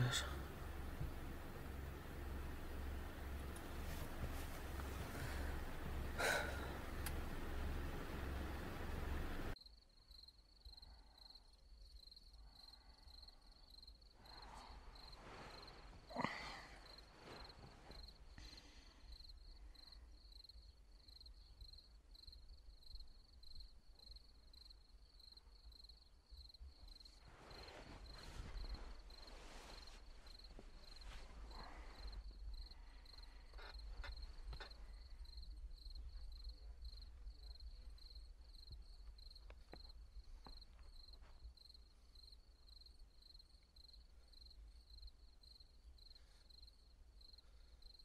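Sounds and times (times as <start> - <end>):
low room hum: 0.0 - 9.6, 14.2 - 48.0
cricket chirping: 0.0 - 48.0.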